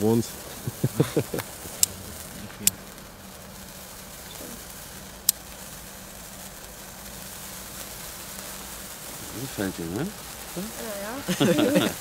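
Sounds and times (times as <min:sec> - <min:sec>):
sparkler fizzing: 0:00.0 - 0:12.0
sparkler snaps: 0:00.0 - 0:12.0.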